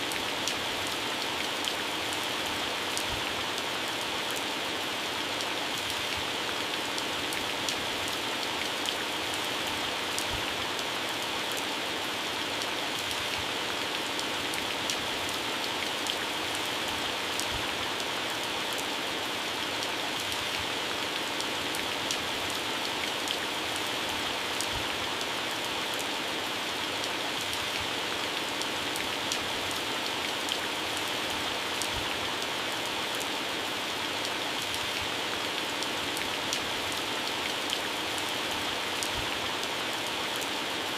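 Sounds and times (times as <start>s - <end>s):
heavy rain on plants: 0.0s - 40.9s.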